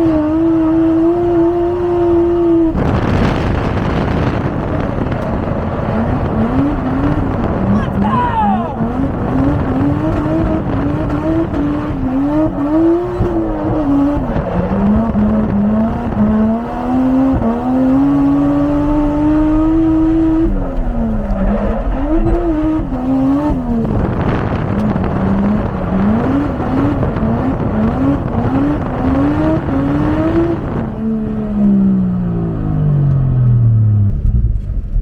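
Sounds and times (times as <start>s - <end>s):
car engine revving hard: 0.0s - 32.7s.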